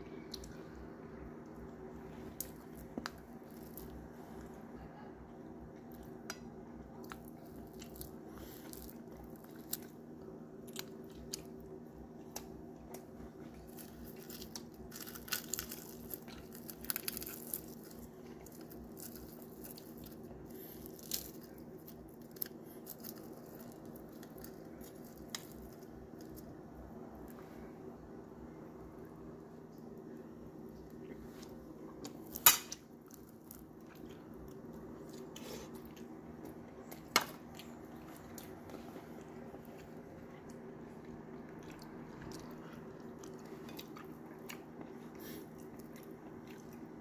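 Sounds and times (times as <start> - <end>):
chewing and crunching: 1.4 - 4.6, 5.7 - 27.7, 29.9 - 47.0.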